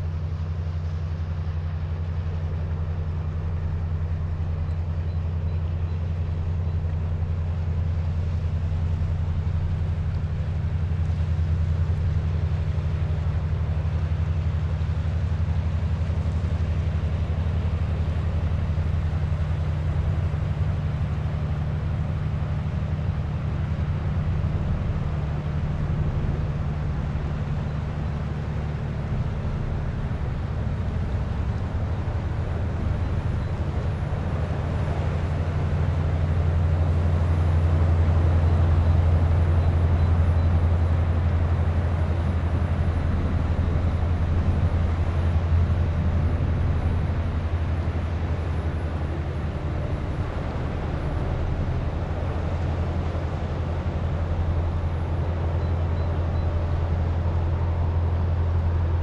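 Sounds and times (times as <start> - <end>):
ship engine drone: 0.0 - 59.0
water wash: 7.0 - 59.0.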